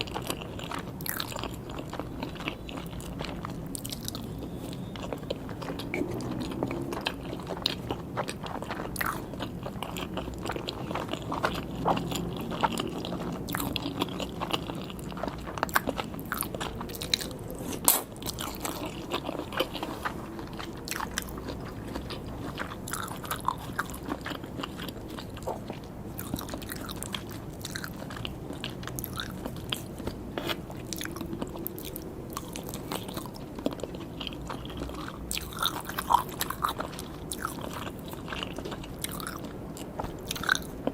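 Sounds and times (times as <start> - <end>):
person chewing: 0.0 - 40.9.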